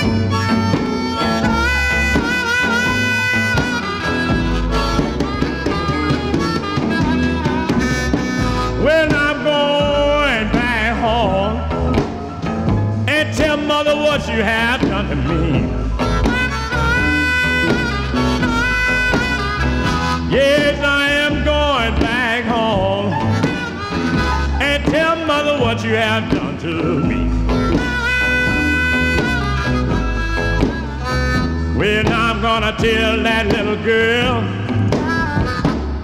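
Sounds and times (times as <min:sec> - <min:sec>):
instrumental blues record: 0:00.0 - 0:36.0.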